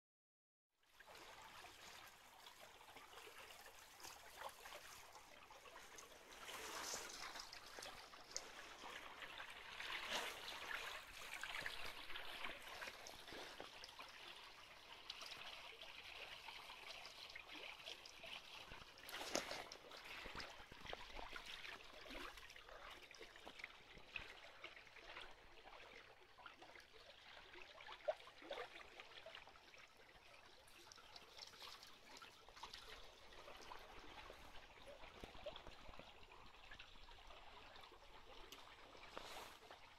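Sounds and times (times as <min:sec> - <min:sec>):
water lapping along a hull: 0:00.9 - 0:39.9
water splashes: 0:01.0 - 0:39.9.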